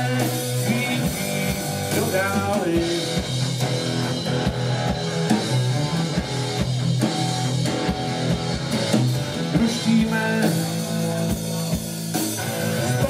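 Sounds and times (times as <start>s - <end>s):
drum kit beat: 0.0s - 13.0s
rock band playing: 0.0s - 13.0s.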